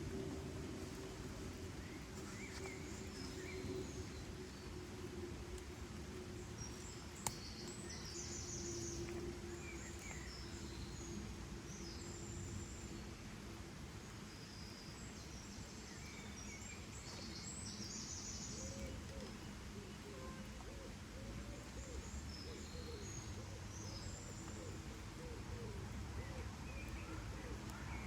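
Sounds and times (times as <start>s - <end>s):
background hiss: 0.0s - 28.0s
faint low hum: 0.0s - 28.0s.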